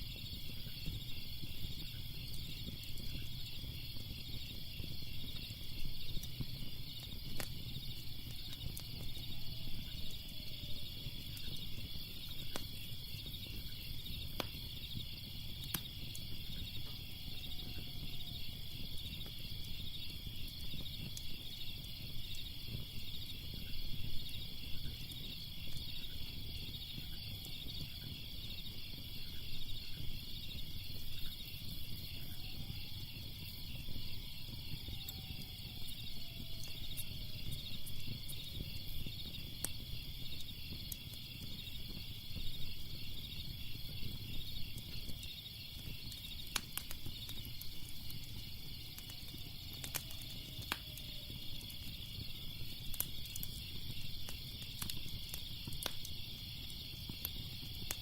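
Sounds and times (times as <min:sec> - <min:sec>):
crickets chirping: 0:00.0 - 0:58.0
fire crackling: 0:00.0 - 0:58.0.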